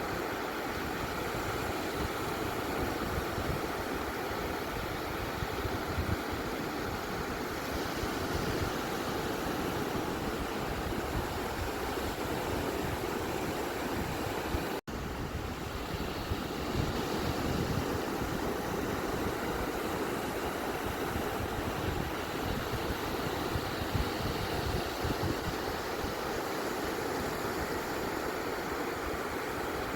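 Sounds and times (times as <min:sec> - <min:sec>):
ocean surf rushing: 0:00.0 - 0:29.9.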